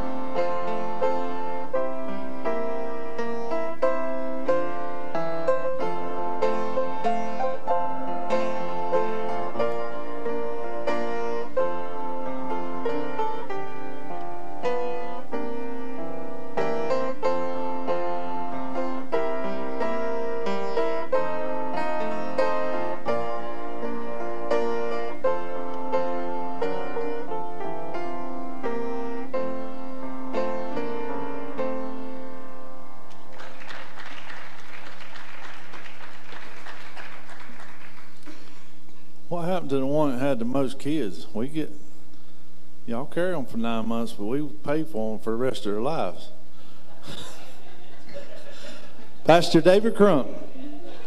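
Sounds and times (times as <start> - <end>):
upright piano playing: 0.0 - 41.7, 48.6 - 50.5.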